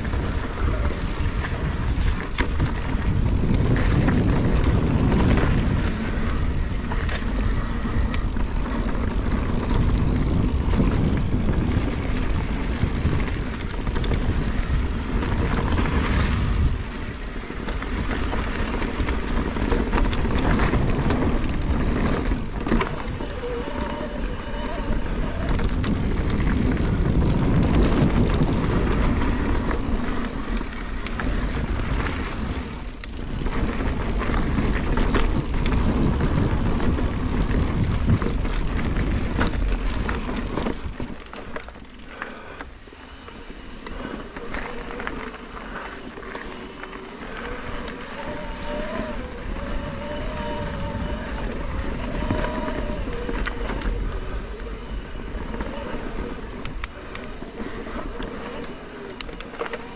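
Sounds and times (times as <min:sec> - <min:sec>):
bike tyres rattling over dirt: 0:00.0 - 0:59.9
wind rushing over microphone: 0:00.0 - 0:59.9.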